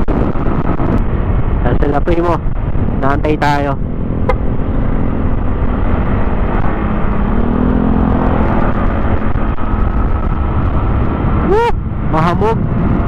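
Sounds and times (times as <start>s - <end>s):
motorcycle engine hum: 0.0s - 13.0s
wind rushing on microphone: 0.0s - 13.0s.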